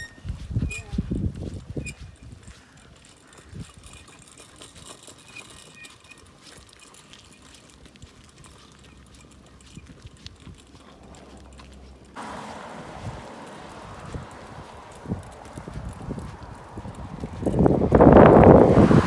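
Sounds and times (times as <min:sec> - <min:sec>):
bicycle clicks and rattles: 0:00.0 - 0:12.3, 0:13.0 - 0:18.6.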